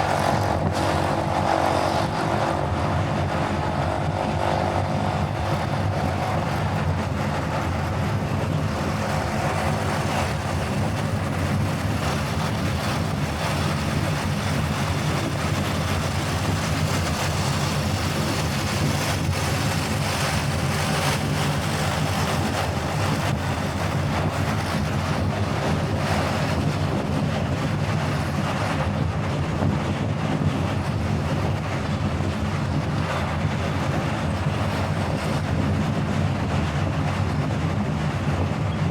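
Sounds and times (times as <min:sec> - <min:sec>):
engine and road rumble: 0:00.0 - 0:38.9
wind: 0:00.0 - 0:38.9.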